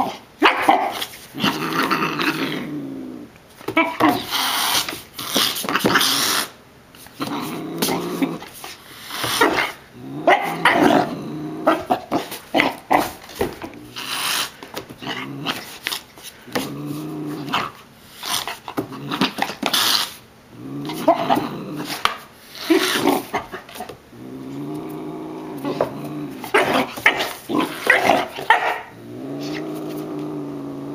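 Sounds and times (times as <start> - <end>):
puppy growling: 0.0 - 6.6, 7.2 - 30.9.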